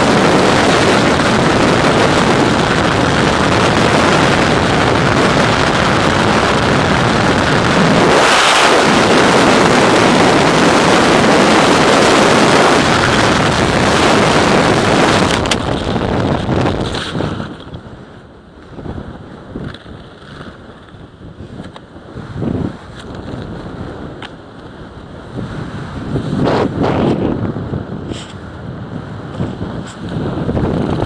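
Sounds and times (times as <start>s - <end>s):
freefall wind rushing over microphone: 0.0s - 31.0s.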